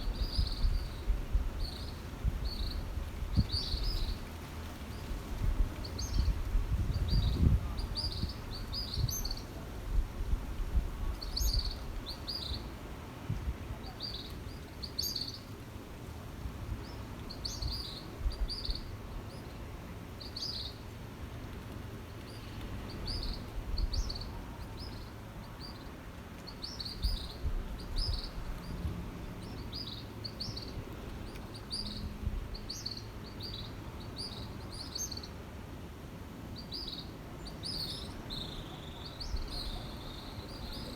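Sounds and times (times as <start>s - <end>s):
small birds chirping: 0.0s - 9.6s, 11.1s - 12.8s, 13.7s - 15.5s, 16.8s - 19.6s, 20.2s - 20.8s, 22.0s - 35.4s, 36.5s - 40.9s.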